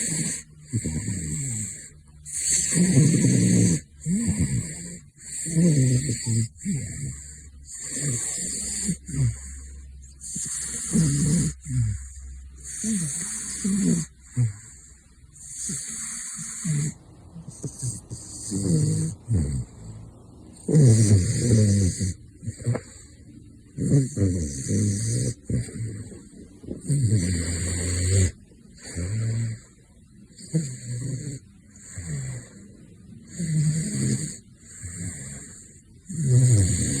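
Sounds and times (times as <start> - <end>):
wild cat snoring: 0.0 - 37.0.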